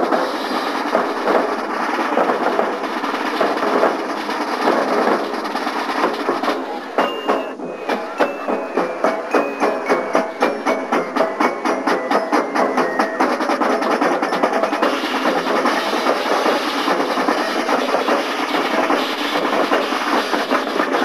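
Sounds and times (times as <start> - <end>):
marching band playing: 0.0 - 21.0
marching drum beat: 0.0 - 21.0.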